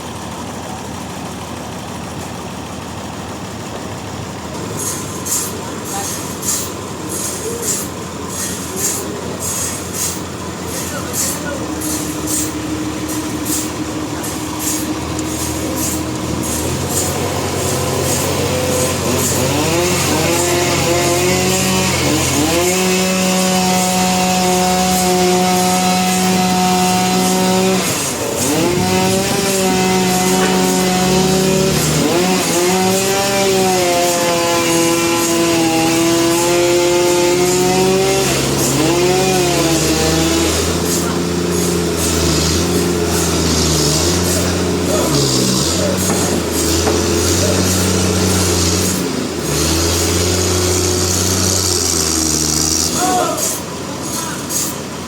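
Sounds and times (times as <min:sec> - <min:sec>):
sawmill saw and engine running: 0:00.0 - 0:55.0.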